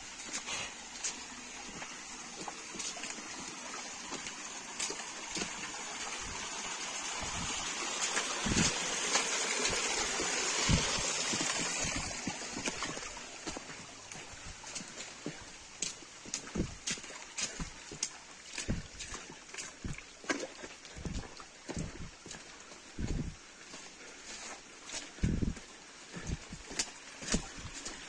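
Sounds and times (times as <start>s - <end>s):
creek trickling over rocks: 0.0s - 28.0s.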